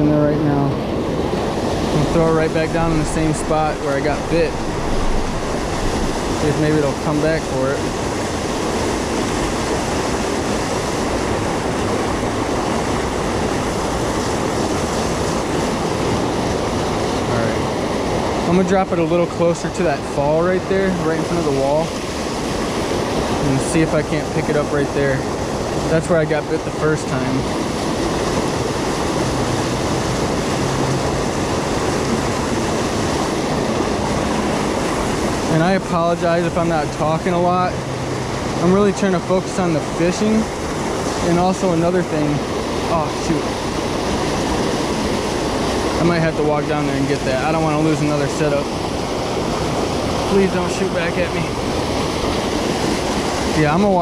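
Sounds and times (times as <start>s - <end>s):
stream water rushing over a fall: 0.0s - 54.0s.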